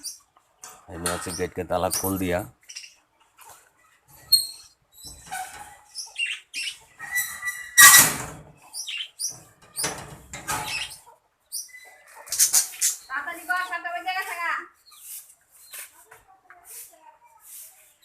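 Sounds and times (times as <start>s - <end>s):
birds chirping and squawking: 0.0s - 15.9s.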